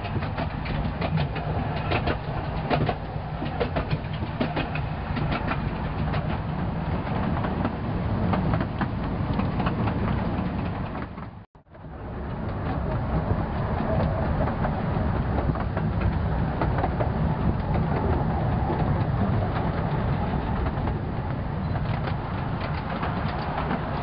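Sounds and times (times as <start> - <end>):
train rumbling: 0.0 - 24.0
wheels clicking and clattering: 0.0 - 24.0.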